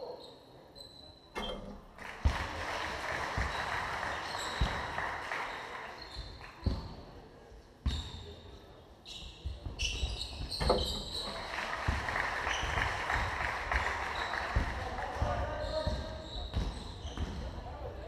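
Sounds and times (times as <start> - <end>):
sneakers squeaking: 0.0 - 1.9, 3.4 - 7.0, 7.8 - 11.5, 12.4 - 17.7
voices in a hall: 0.0 - 18.0.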